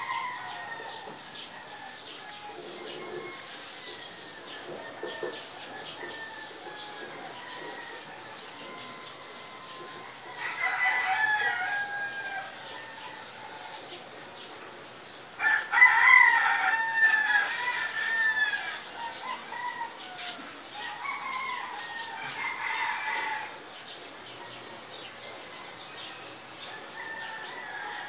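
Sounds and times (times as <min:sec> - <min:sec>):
rooster crowing: 0:00.0 - 0:14.0, 0:15.4 - 0:23.7, 0:24.9 - 0:28.0.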